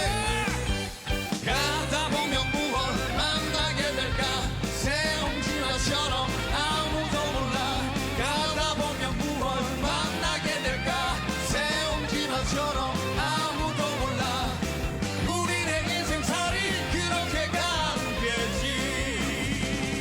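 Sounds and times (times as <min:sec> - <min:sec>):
rock song with male vocals: 0:00.0 - 0:20.0.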